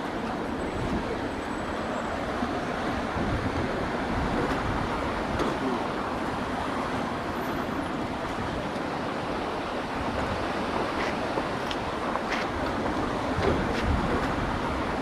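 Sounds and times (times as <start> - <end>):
ocean surf washing on beach: 0.0 - 15.0.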